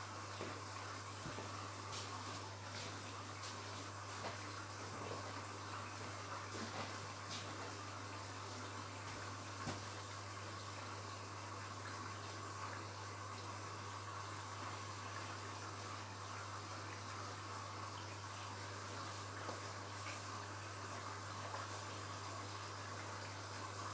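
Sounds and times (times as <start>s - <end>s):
washing machine low hum: 0.0s - 23.9s.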